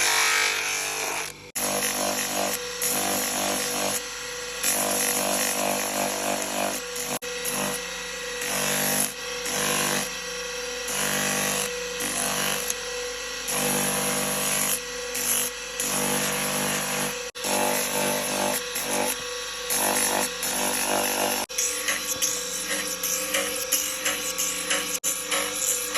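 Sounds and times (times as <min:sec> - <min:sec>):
power tool cutting horn: 0:00.0 - 0:25.9.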